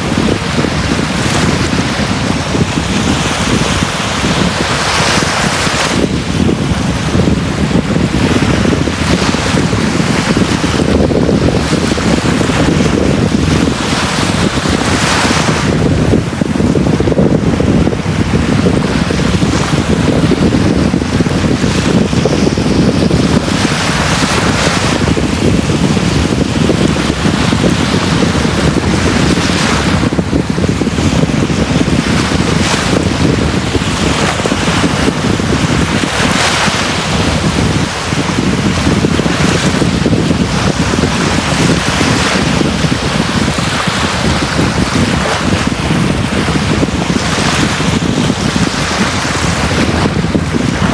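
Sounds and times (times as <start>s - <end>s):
sea waves breaking on beach: 0.0s - 50.9s.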